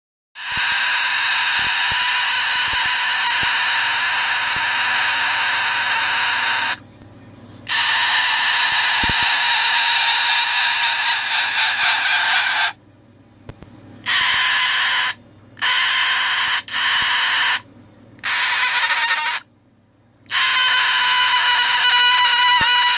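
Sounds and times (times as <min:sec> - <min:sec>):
cockatoo screaming: 0:00.4 - 0:06.8, 0:07.7 - 0:12.8, 0:14.0 - 0:17.6, 0:18.2 - 0:19.5, 0:20.3 - 0:22.9.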